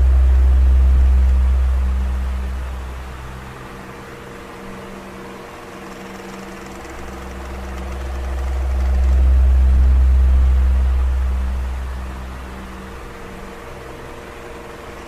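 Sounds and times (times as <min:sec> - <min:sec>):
low rumble: 0:00.0 - 0:05.0, 0:06.6 - 0:15.0
electric fan motor hum: 0:00.0 - 0:15.0.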